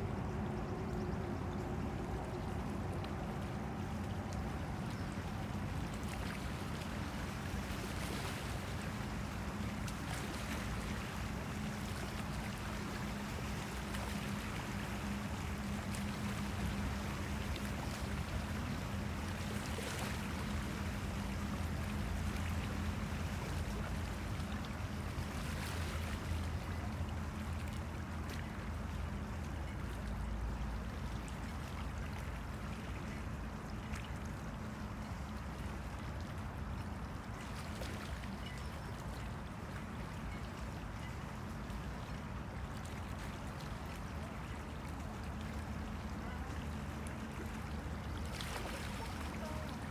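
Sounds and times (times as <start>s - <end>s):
river waves lapping and splashing: 0.0s - 49.9s.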